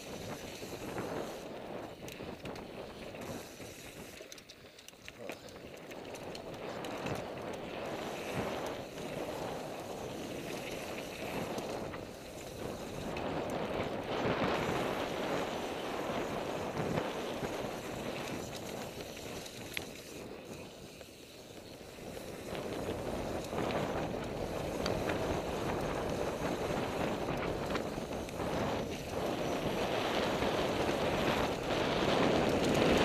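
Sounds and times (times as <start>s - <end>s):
wind buffeting microphone: 0.0s - 4.2s, 5.4s - 20.7s, 21.5s - 33.0s
bike clicks and rattles: 0.0s - 33.0s
bike tyres rolling on dirt: 0.0s - 33.0s.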